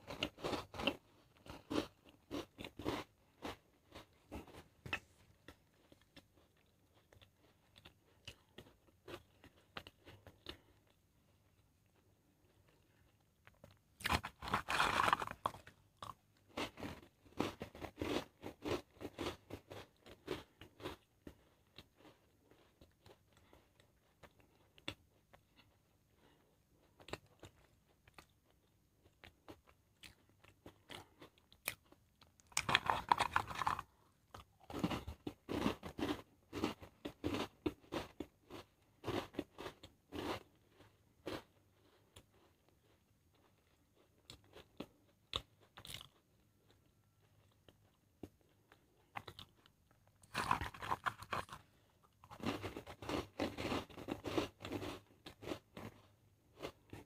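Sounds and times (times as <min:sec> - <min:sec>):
crunching biscuits: 0:00.0 - 0:57.0.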